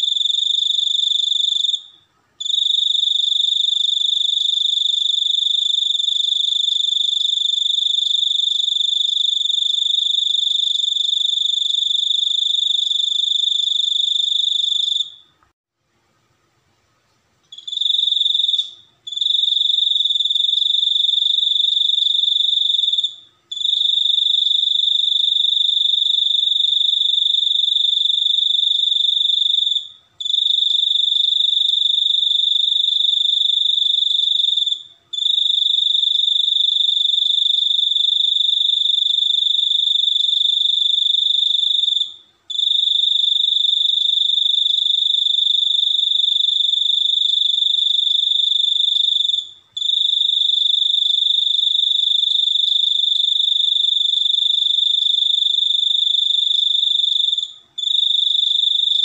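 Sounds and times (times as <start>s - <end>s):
cricket trilling: 0.0s - 15.3s, 17.5s - 59.0s.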